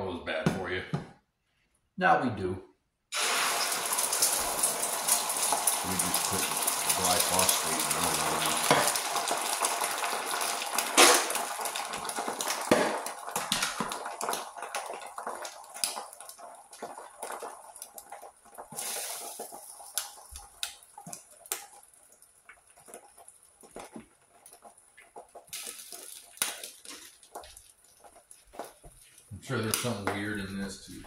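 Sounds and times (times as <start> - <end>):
eggs sizzling in a frying pan: 3.1 - 31.0.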